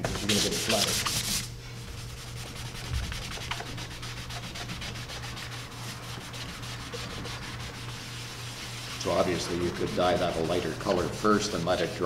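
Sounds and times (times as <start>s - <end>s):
low steady hum: 0.0s - 12.0s
sponge scrubbing leather: 0.0s - 12.0s.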